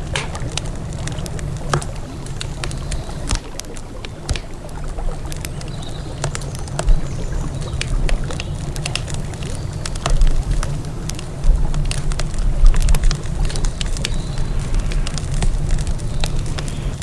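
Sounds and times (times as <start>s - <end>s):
campfire crackling: 0.0s - 17.0s
flowing river water: 0.0s - 17.0s.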